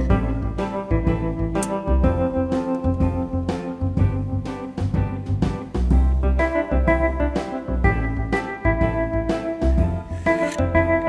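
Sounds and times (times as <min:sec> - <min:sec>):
keyboard and organ music with beat: 0:00.0 - 0:11.0.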